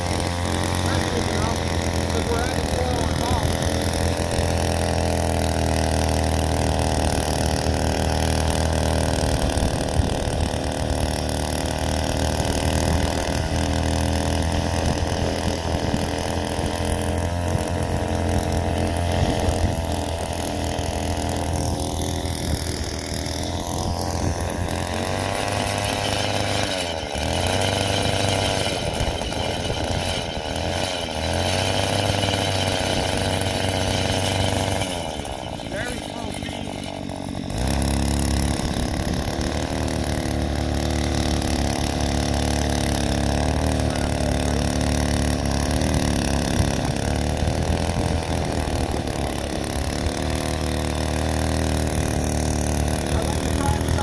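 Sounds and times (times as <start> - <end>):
cultivator engine tilling soil: 0.0 - 54.0.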